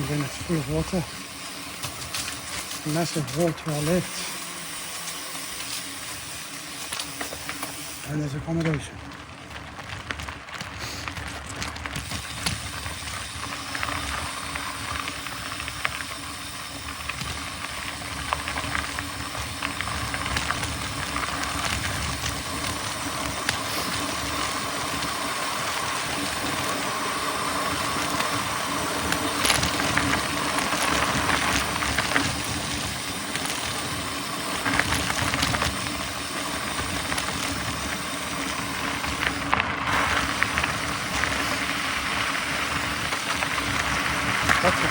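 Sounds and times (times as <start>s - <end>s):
bike knocks and rattles: 0.0s - 44.9s
tyres rolling over ground: 0.0s - 44.9s.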